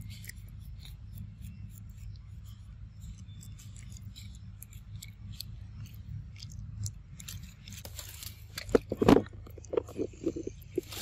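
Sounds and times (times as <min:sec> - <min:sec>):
monkeys chewing food: 0:00.0 - 0:11.0.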